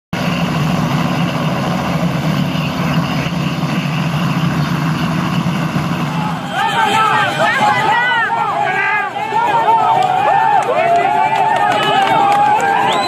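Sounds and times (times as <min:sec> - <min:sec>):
helicopter hovering: 0:00.2 - 0:13.0.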